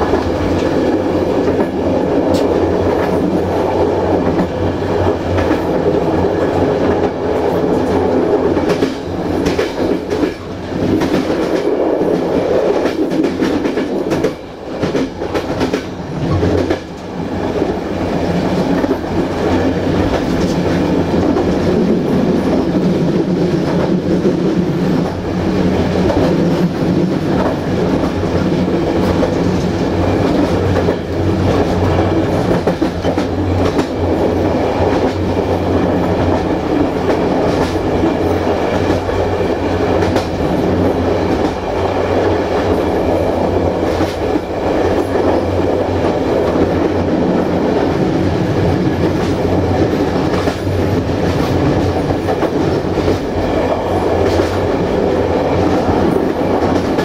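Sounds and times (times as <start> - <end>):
clickety-clack of rail joints: 0.0 - 57.0
train wheels rumbling on rails: 0.0 - 57.0.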